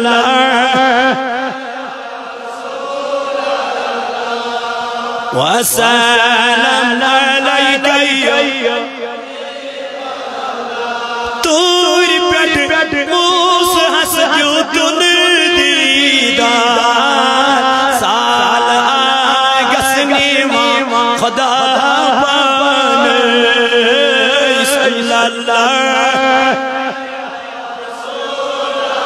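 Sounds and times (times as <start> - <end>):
man singing devotional song: 0.0 - 29.0.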